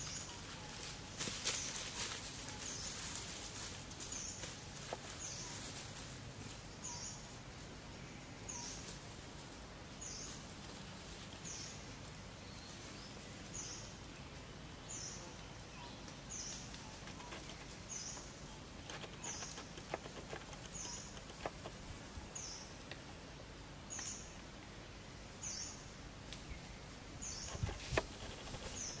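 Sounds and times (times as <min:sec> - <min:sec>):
outdoor background noise: 0:00.0 - 0:29.0.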